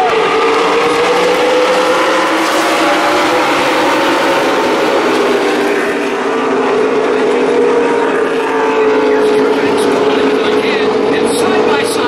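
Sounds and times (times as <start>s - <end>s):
stock car engines droning: 0.0s - 12.0s.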